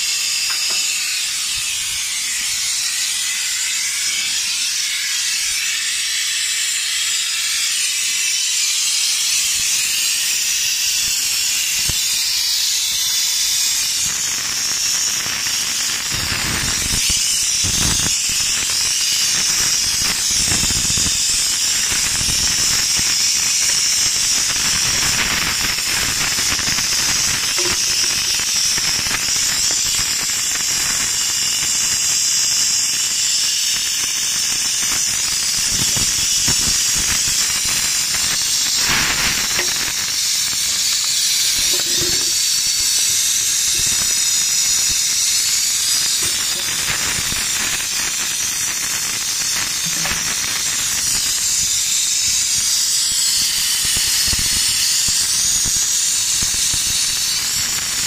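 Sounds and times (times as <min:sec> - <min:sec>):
gas hissing from pipes: 0:00.0 - 0:58.0.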